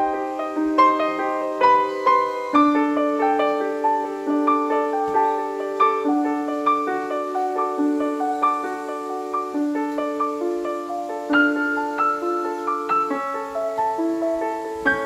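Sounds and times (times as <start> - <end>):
solo piano piece: 0.0 - 15.0.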